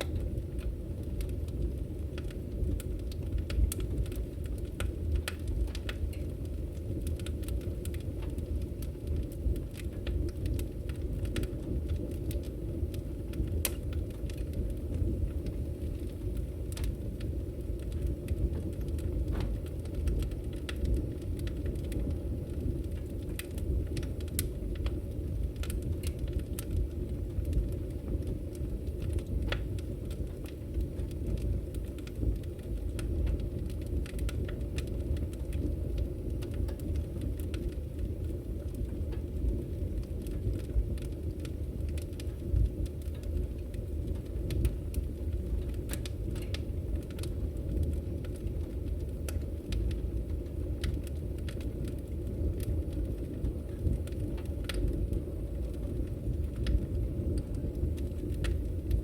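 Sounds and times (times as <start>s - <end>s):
firewood crackling and popping: 0.0s - 59.0s
rush of flames: 0.0s - 59.0s.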